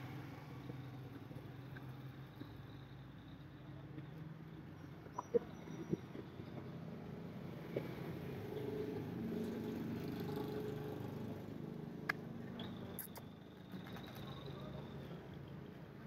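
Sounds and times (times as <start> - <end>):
street traffic engine hum: 0.0 - 16.0.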